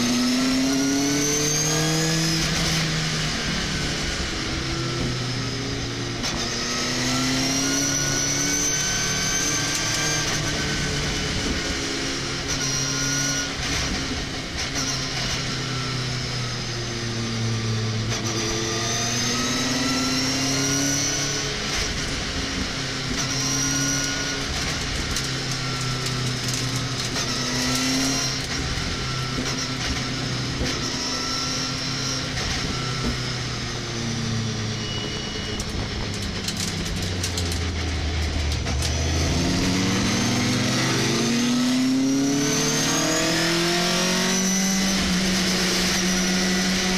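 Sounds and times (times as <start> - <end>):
racing truck engine: 0.0 - 46.9.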